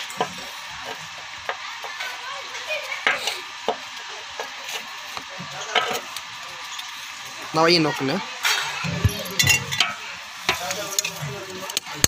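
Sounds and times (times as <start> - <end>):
hot sand moulds hissing and crackling: 0.0 - 12.0.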